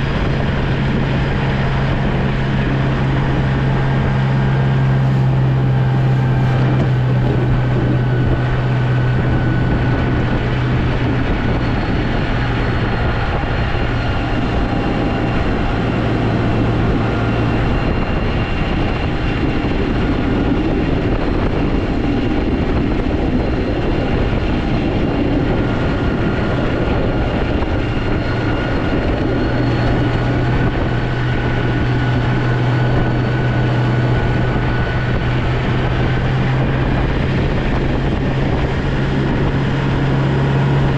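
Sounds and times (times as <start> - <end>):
snowplow engine humming: 0.0 - 40.9.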